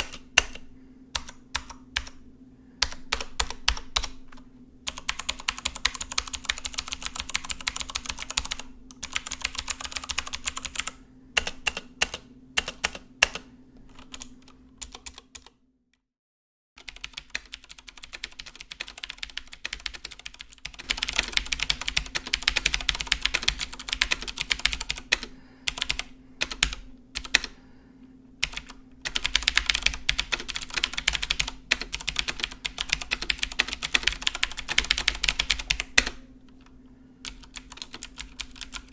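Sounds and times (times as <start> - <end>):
fast mechanical keyboard typing: 0.0 - 2.2, 2.8 - 15.5, 16.8 - 27.6, 28.4 - 38.9.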